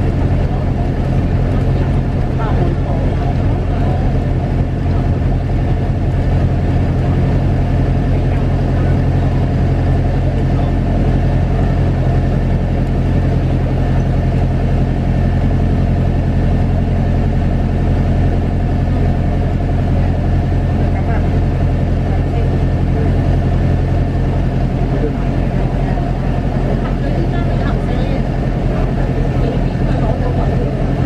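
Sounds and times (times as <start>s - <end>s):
airplane engine drone in cabin: 0.0s - 31.0s.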